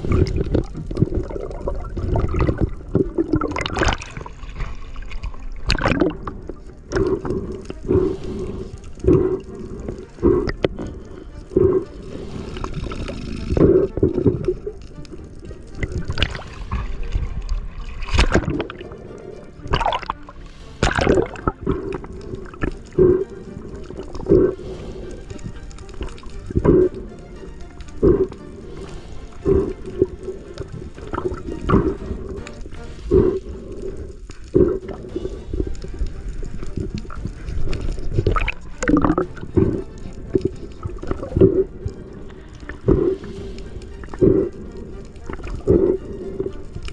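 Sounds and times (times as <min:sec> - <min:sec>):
water sloshing and gurgling: 0:00.0 - 0:46.9.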